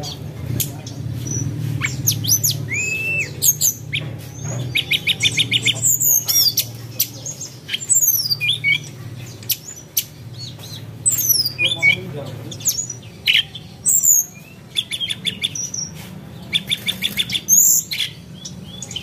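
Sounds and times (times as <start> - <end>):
bird trill: 0.0 - 19.0
birds chirping and squawking: 0.0 - 19.0.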